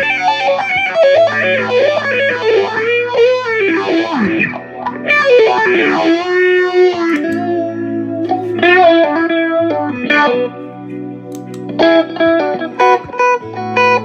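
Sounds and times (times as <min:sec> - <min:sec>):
electric guitar notes and chords: 0:00.0 - 0:14.0.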